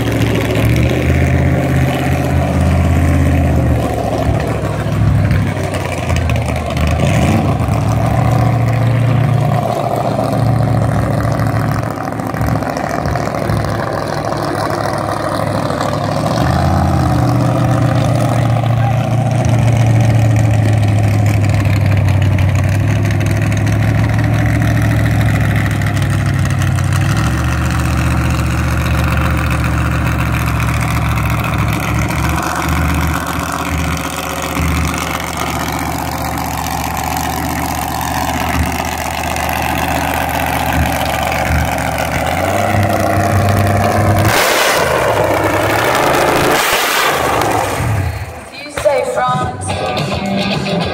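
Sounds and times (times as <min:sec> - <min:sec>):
engine idling lumpily: 0:00.0 - 0:46.6, 0:47.2 - 0:49.3.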